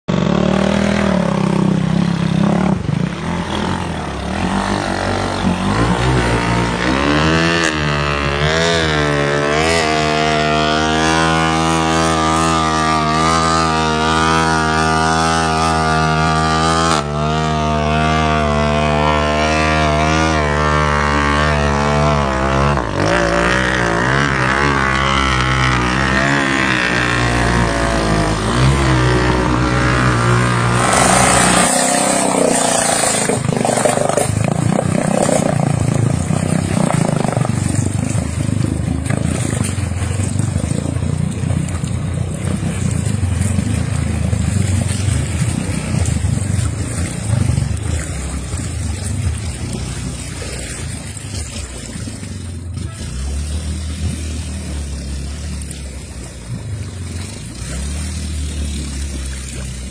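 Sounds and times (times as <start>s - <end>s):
motorcycle engine running: 0.0s - 59.9s
water splashing: 0.2s - 59.9s.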